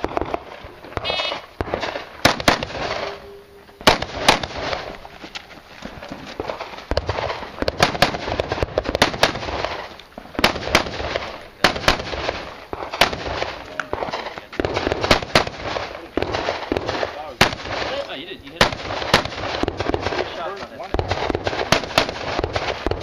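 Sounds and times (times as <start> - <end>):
gunshots: 0.0 - 5.0, 6.4 - 23.0.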